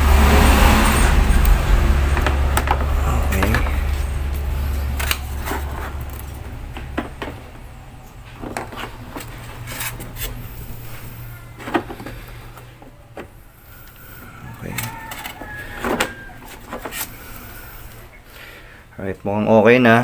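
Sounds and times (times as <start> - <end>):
low vehicle rumble: 0.0 - 18.9.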